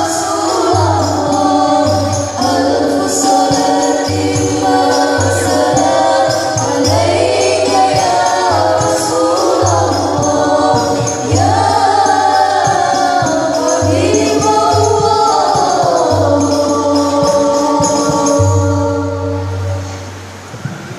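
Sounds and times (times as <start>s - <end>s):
group singing in unison: 0.0s - 20.4s
hand percussion with jingles: 0.0s - 20.4s.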